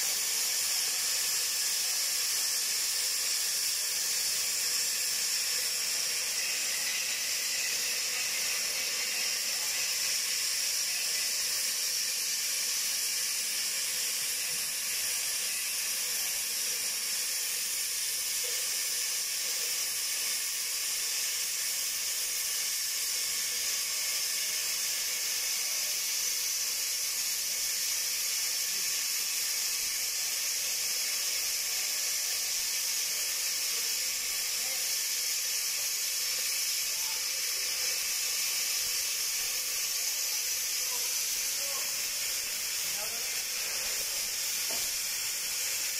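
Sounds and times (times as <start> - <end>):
cutting torch hissing: 0.0 - 45.9.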